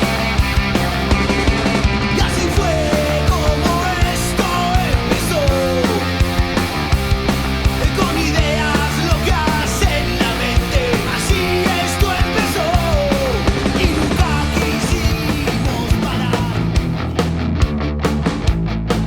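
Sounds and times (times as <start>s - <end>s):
punk rock song: 0.0s - 19.0s.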